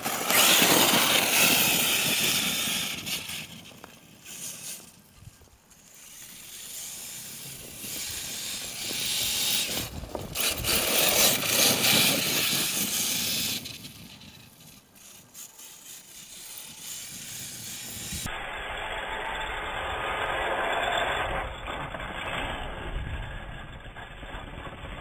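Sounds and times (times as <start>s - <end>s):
tyres churning through snow: 0.0s - 25.0s.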